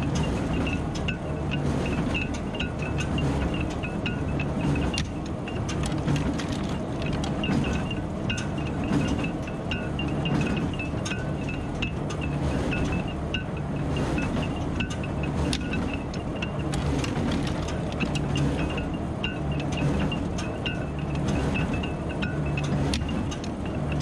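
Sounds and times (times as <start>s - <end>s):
metallic ticking and clinking: 0.1s - 24.0s.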